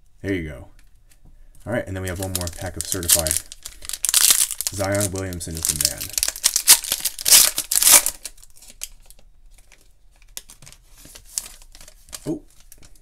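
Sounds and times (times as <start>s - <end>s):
foil wrapper tearing and crinkling: 2.1s - 13.0s.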